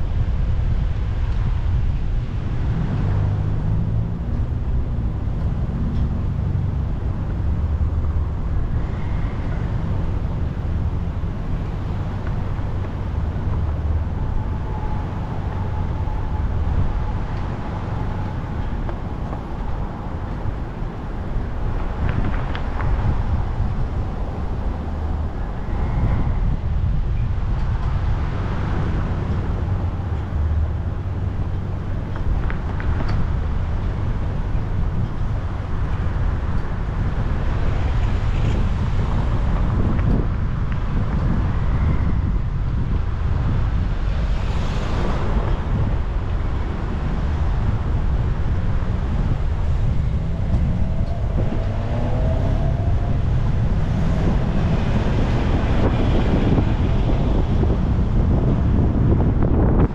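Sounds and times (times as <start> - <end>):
car driving on road: 0.0 - 59.9
wind buffeting microphone: 0.0 - 59.9.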